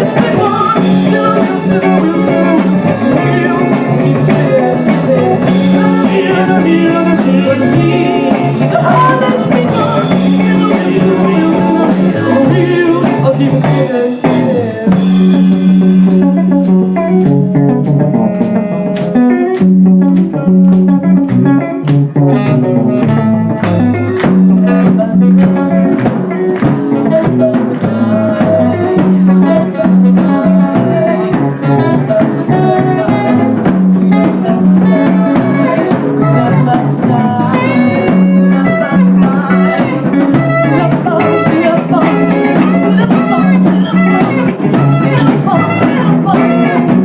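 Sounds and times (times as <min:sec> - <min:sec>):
guitar: 0:00.0 - 0:47.0
steady drum beat: 0:00.0 - 0:47.0.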